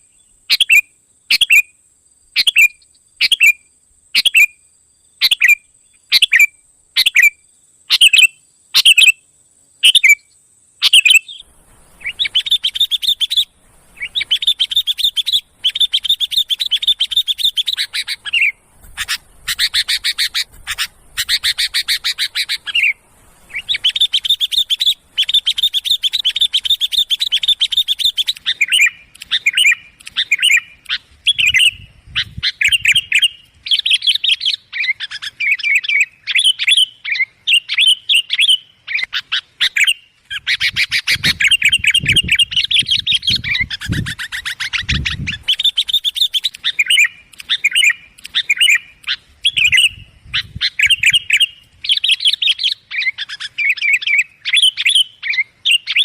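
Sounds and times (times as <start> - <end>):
bulbuls calling and chattering: 10.9 - 56.0.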